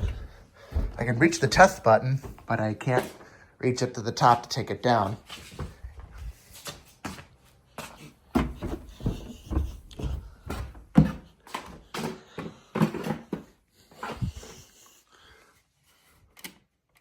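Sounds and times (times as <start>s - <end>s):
knocks and thumps of handling: 0.0s - 3.4s, 4.3s - 14.6s.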